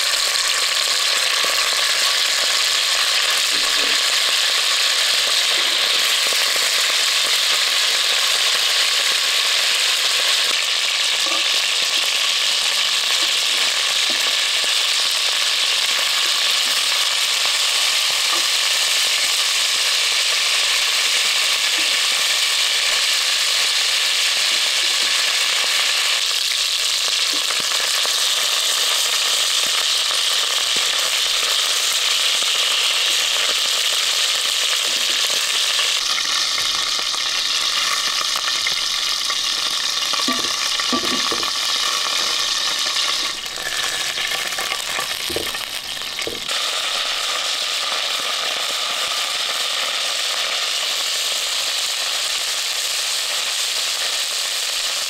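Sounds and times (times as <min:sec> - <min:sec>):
beef sizzling in a pot: 0:00.0 - 0:55.0.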